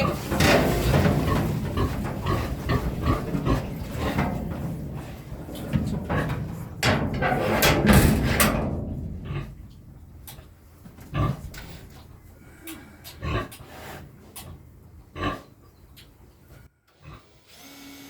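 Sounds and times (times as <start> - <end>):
pig grunting: 0.0 - 15.6, 17.0 - 17.3.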